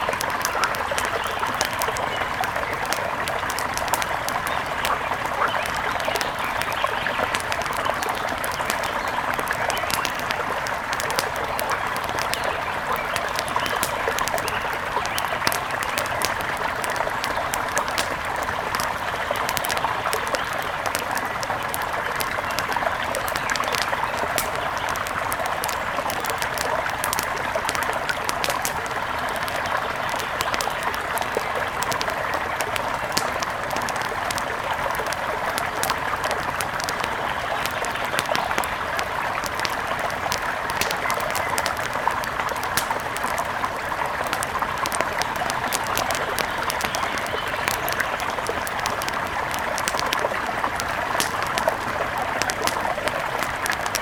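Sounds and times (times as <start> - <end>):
small sharp ticks: 0.0 - 43.5, 44.2 - 54.0.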